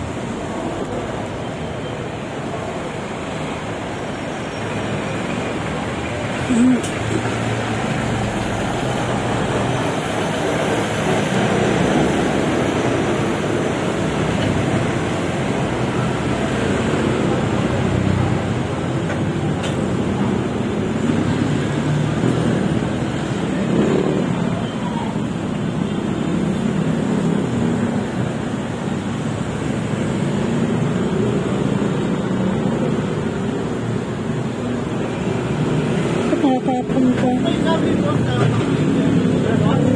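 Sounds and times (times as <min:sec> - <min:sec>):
road traffic noise: 0:00.0 - 0:39.9.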